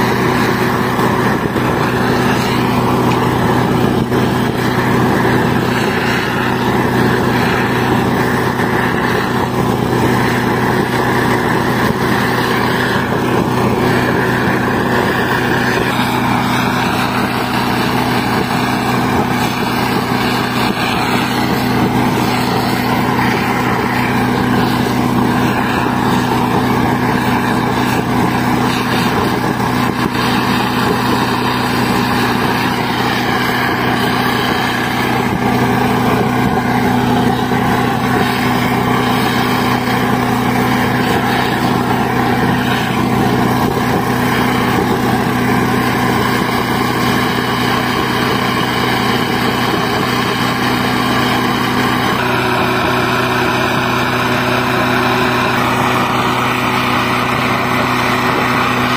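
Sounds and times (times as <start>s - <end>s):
air compressor engine drone: 0.0s - 58.9s
rushing noise: 0.0s - 58.9s.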